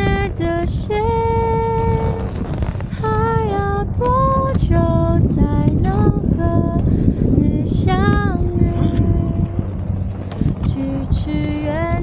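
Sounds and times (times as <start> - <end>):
woman singing slow melody: 0.0 - 2.4, 3.0 - 9.9, 10.7 - 12.0
steady low rumble: 0.0 - 12.0.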